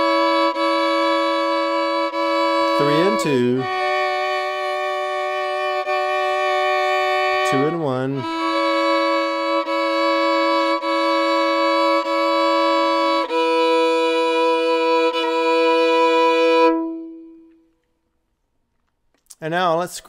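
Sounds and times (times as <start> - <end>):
fiddle playing double stops: 0.0 - 17.7.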